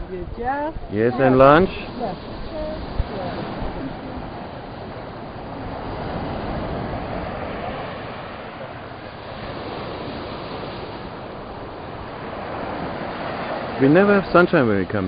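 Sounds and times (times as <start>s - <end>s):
waves washing onto beach: 0.0s - 15.0s
wind rumbling on microphone: 0.0s - 15.0s.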